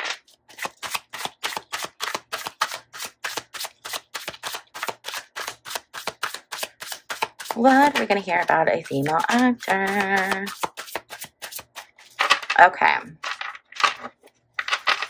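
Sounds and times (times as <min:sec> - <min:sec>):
cards being shuffled: 0:00.0 - 0:12.6, 0:13.2 - 0:15.0.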